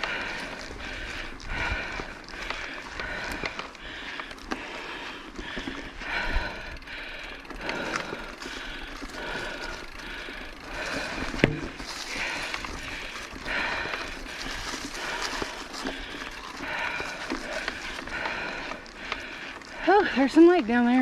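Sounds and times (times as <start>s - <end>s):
bike noise on trail: 0.0s - 21.0s
heavy breathing: 0.0s - 21.0s.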